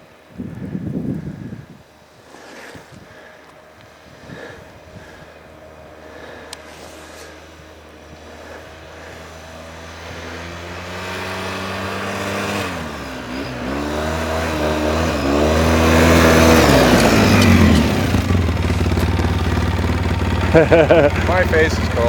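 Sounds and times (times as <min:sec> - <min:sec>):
atv engine: 0:00.0 - 0:22.0.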